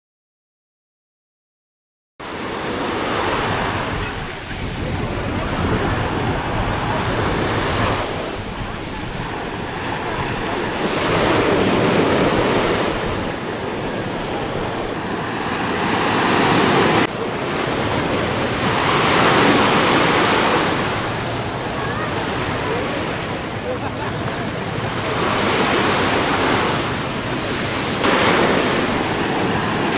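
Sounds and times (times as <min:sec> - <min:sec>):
surf breaking on beach: 0:02.2 - 0:29.9.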